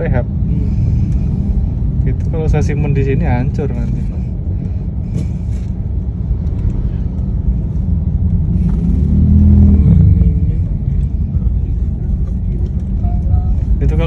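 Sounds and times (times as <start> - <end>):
car engine: 0.0 - 14.0
road rumble: 0.0 - 14.0.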